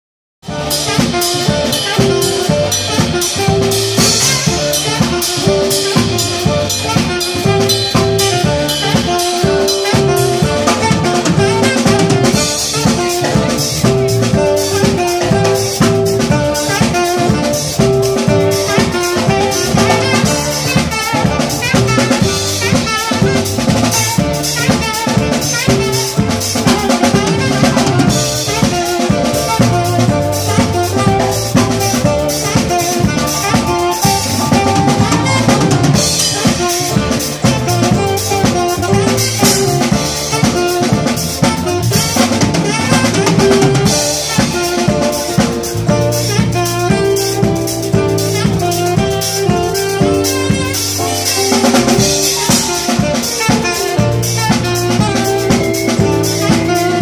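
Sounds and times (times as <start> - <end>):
drum kit beat: 0.4 - 57.0
saxophone lead: 0.4 - 57.0.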